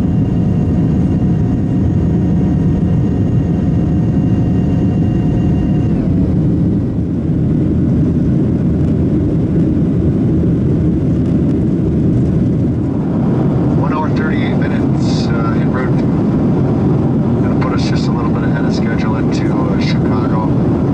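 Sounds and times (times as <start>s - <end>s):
jet engine rumble in cabin: 0.0s - 20.9s
multi-tone engine whine: 0.0s - 20.9s.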